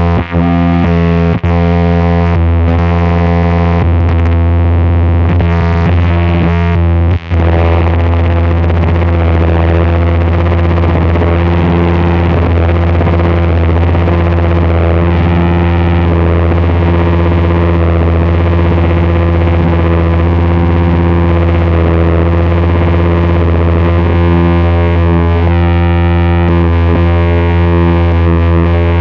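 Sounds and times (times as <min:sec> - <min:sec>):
deep hum: 0:00.0 - 0:29.0
synth noise drone: 0:00.0 - 0:29.0.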